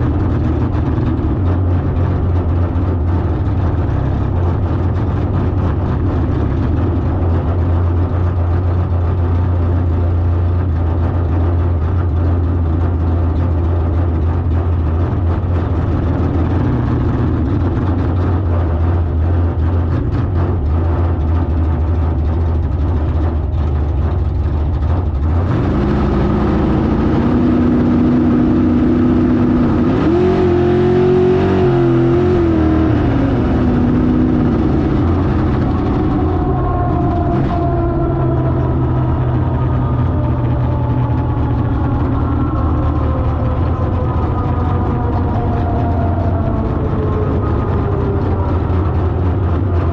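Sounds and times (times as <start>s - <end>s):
car engine idling: 0.0s - 49.9s
engine revving: 0.0s - 49.9s.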